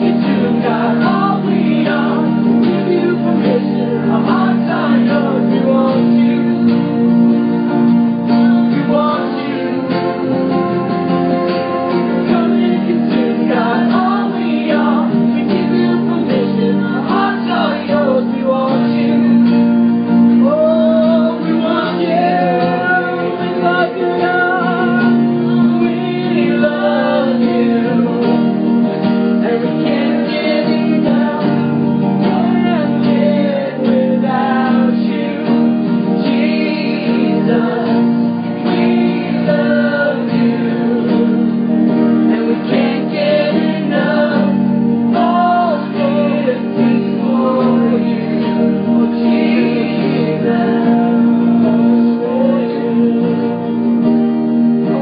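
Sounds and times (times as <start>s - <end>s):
group singing worship song: 0.0s - 55.0s
strummed acoustic guitars: 0.0s - 55.0s.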